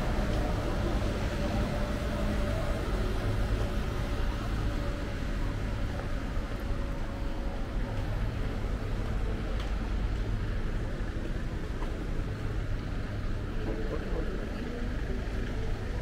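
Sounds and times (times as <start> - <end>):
traffic rumble and hiss: 0.0 - 16.0.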